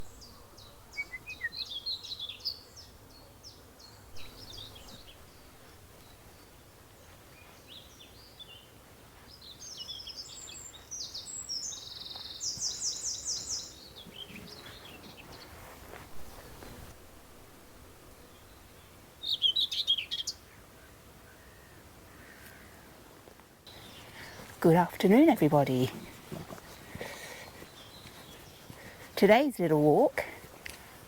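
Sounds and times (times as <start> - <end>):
small birds singing: 0.0 - 20.7, 23.7 - 30.8
faint outdoor background noise: 0.0 - 31.0.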